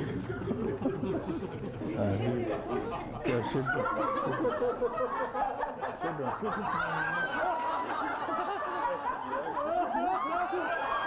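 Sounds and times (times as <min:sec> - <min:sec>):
audience laughing: 0:00.0 - 0:10.7.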